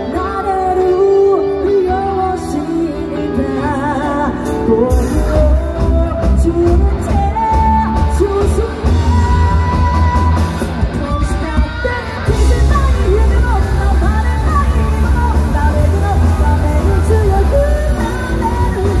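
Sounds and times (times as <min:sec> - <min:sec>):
bass guitar: 0:00.0 - 0:19.0
drums: 0:00.0 - 0:19.0
electric guitar: 0:00.0 - 0:19.0
woman singing: 0:00.0 - 0:19.0.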